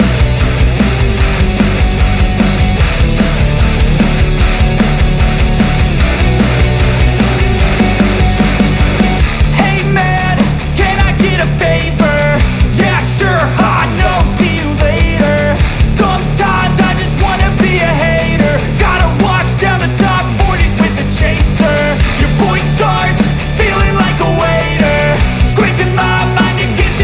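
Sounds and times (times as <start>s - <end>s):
distorted guitars: 0.0s - 27.0s
fast rock drum beat: 0.0s - 27.0s.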